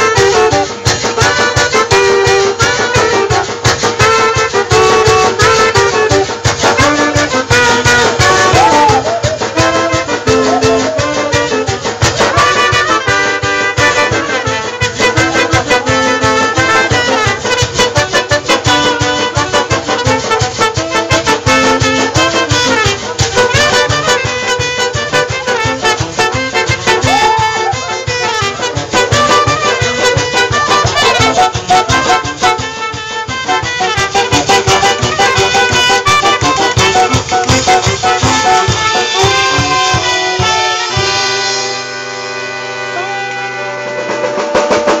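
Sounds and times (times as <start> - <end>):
brass band playing dance tune: 0.0 - 45.0
drum kit beat: 0.0 - 45.0.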